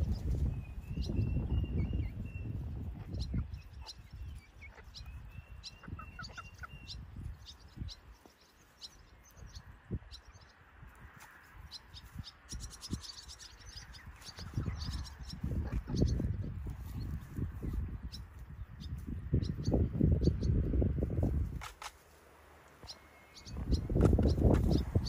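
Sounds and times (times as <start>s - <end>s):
wind rumbling on microphone: 0.0s - 8.3s, 9.0s - 21.9s, 23.4s - 25.0s
small bird chirping: 0.0s - 10.6s, 11.3s - 21.2s, 22.8s - 25.0s.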